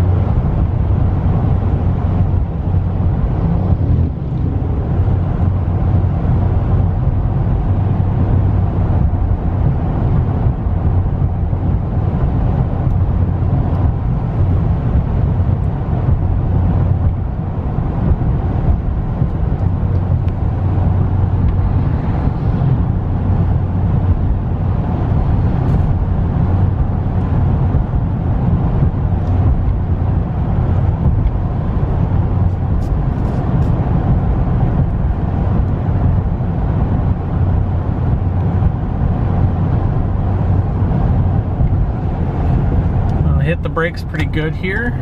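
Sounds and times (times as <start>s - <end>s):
truck engine and road noise: 0.0s - 45.0s.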